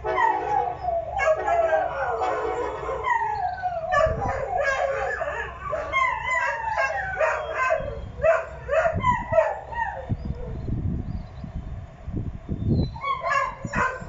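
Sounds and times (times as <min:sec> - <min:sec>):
dogs howling and yipping: 0:00.0 - 0:10.7, 0:12.8 - 0:14.0
low rumbles: 0:00.6 - 0:14.0.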